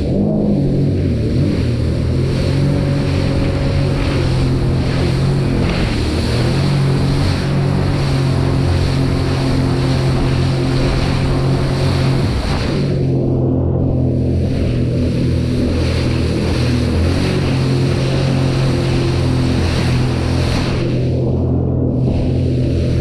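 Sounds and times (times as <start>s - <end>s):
rush of spray: 0.0s - 13.2s, 14.0s - 21.3s
watercraft engine running: 0.0s - 23.0s
wind buffeting microphone: 0.0s - 23.0s.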